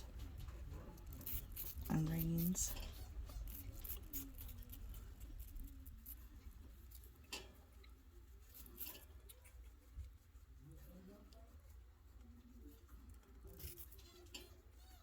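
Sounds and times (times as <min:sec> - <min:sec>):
chinchillas chewing: 0:00.0 - 0:15.0.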